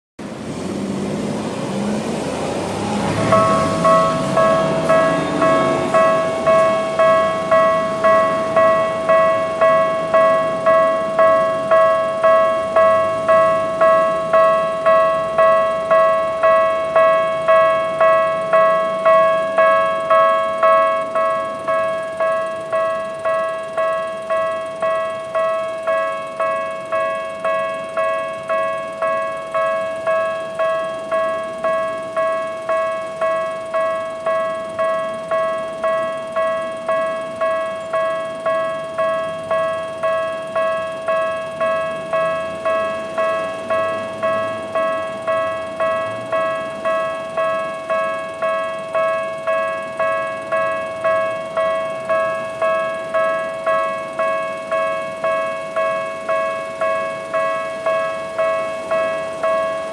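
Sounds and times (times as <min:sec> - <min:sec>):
level crossing bell ringing: 0:02.7 - 0:59.9.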